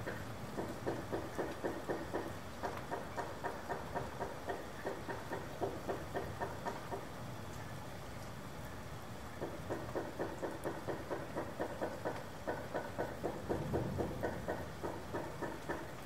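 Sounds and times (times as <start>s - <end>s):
rain rumble and hiss: 0.0s - 16.0s.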